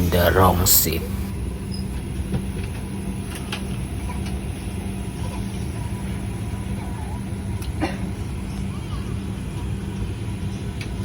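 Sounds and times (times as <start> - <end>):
airliner cabin hum: 0.0 - 11.0.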